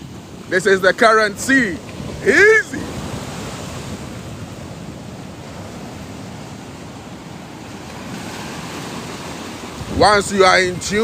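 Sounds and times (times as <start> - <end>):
ocean surf washing onto beach: 0.0 - 11.0
wind on microphone: 1.8 - 11.0.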